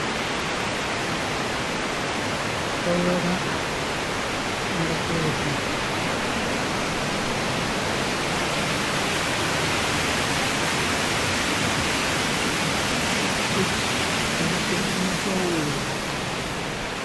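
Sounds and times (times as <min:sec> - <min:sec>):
rushing stream and waterfall: 0:00.0 - 0:17.0.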